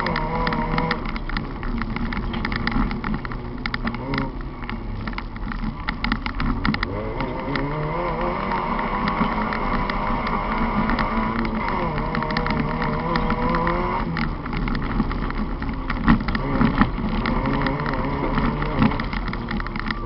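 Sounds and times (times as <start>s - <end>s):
gravel striking car: 0.0s - 20.0s
racing car engine: 0.0s - 20.0s.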